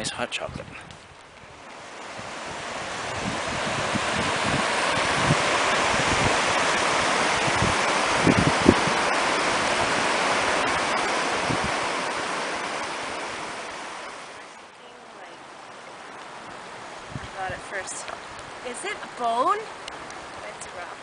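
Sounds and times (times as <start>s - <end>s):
wind buffeting microphone: 0.0s - 14.5s, 16.0s - 21.0s
creek rushing over gravel: 1.3s - 21.0s.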